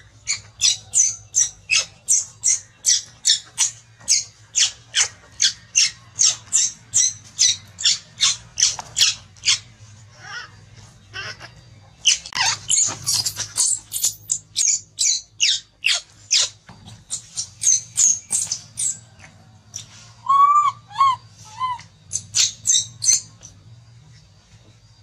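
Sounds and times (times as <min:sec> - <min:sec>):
baby monkey screaming: 0:00.3 - 0:18.2, 0:20.2 - 0:23.3.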